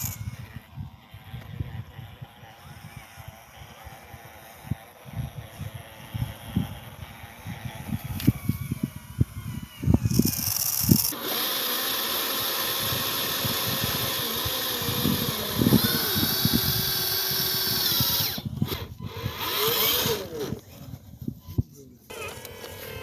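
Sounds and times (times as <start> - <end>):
electric motor and gearbox whine: 0.0 - 23.0.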